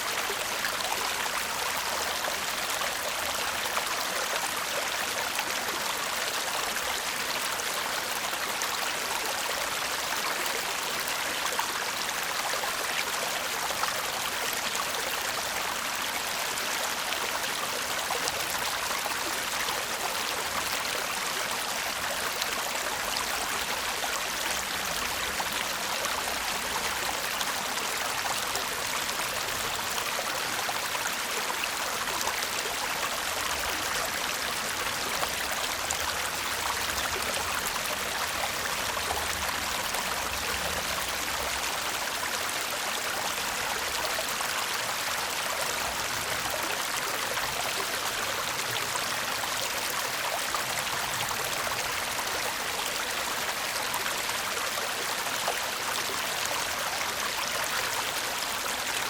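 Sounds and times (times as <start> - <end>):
brook babbling: 0.0 - 59.0.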